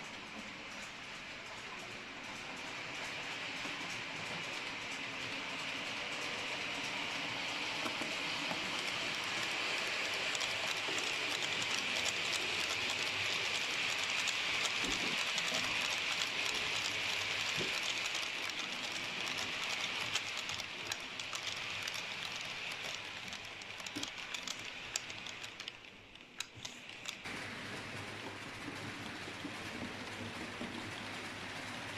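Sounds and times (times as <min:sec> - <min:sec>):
model train whine: 0:00.0 - 0:31.9
small clicks of train wheels: 0:00.0 - 0:31.9.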